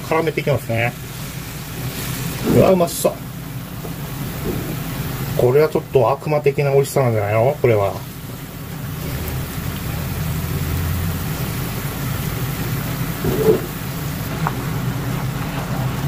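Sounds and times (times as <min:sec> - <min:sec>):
sauce bubbling and sizzling in a pan: 0:00.0 - 0:16.0.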